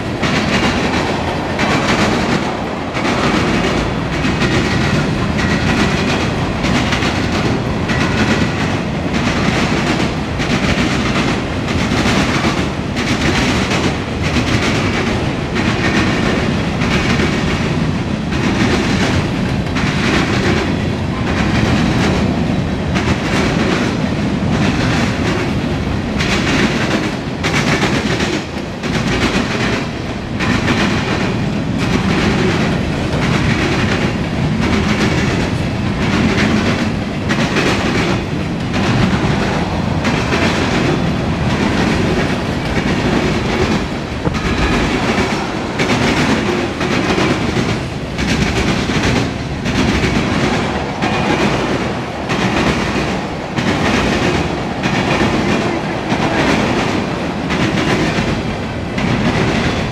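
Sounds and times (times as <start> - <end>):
freight train rumble: 0.0 - 59.9
train wheels clacking over rail joints: 0.0 - 59.9.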